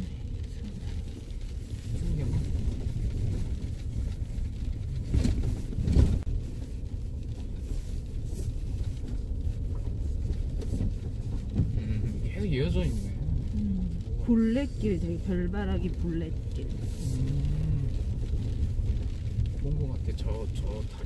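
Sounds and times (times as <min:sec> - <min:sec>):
pickup driving on dirt road: 0:00.0 - 0:21.0.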